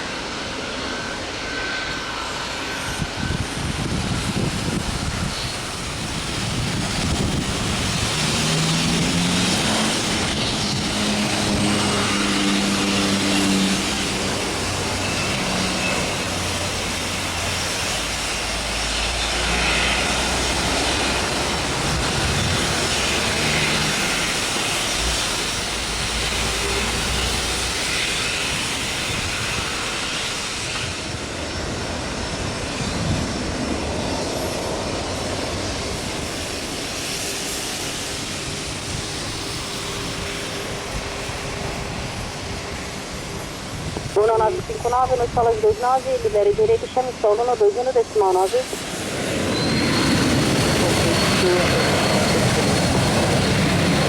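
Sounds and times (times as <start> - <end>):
aircraft engine rush: 0.0 - 54.0.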